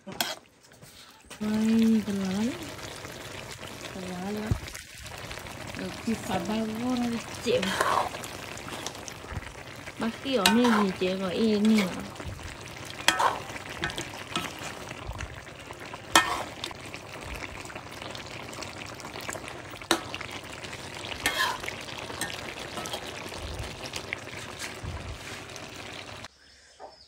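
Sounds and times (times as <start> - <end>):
meat sizzling in a wok: 1.4 - 26.3.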